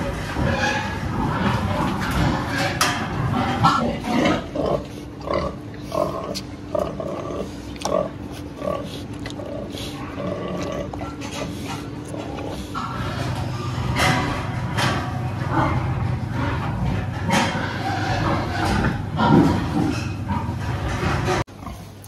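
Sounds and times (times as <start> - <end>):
pigs grunting: 0.0 - 22.0
steady low hum: 0.0 - 22.0.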